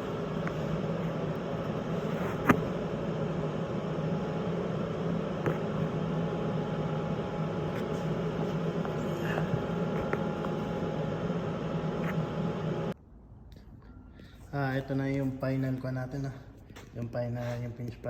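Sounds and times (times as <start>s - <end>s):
machine hum with low drone: 0.0s - 18.0s.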